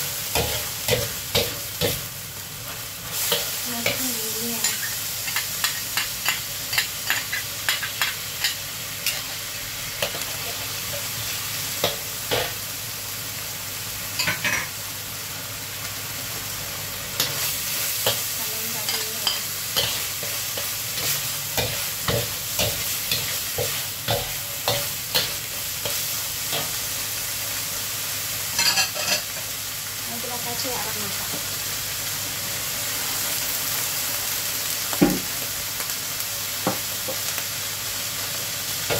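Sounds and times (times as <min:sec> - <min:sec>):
meat sizzling in a wok: 0:00.0 - 0:38.9.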